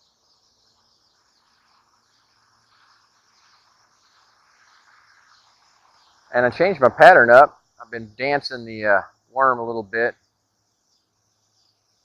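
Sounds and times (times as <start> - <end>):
faint insect chirring: 0.0 - 12.0.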